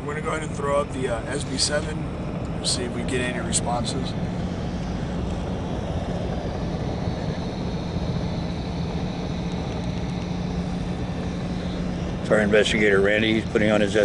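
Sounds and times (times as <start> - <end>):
low steady hum: 0.0 - 14.0
white-noise static: 0.0 - 14.0.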